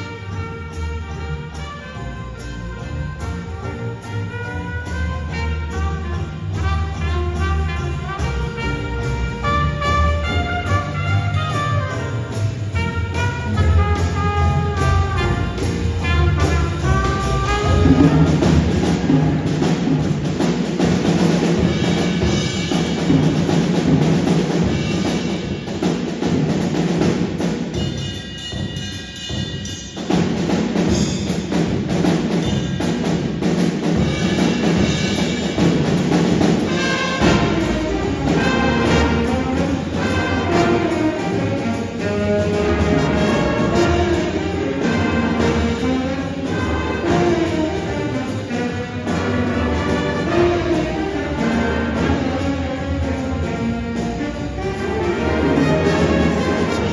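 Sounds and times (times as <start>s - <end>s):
jazz band playing blues: 0.0s - 29.0s, 29.7s - 56.9s.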